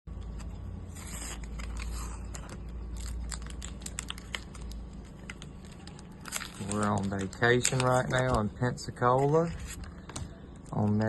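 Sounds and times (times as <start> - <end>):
steady low hum: 0.1 - 11.0
packaging clicks and rustles: 1.2 - 11.0.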